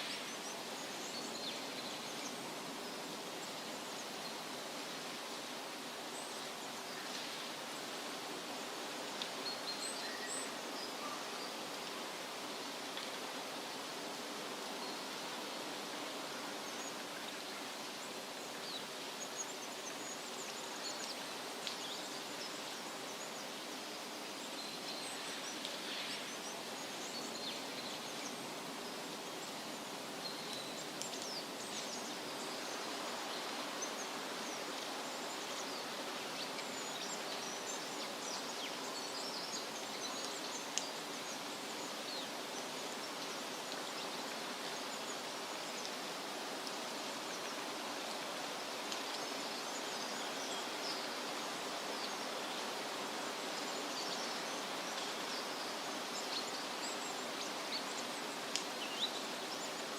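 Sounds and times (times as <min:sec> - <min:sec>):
wind rustling leaves: 0:00.0 - 0:59.9.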